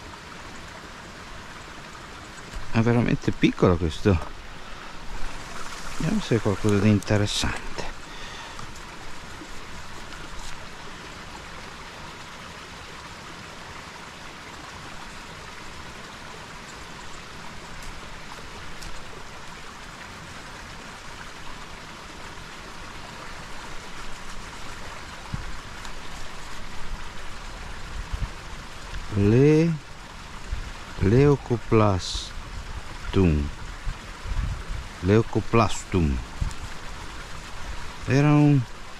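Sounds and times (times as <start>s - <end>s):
brook running: 0.0s - 38.9s.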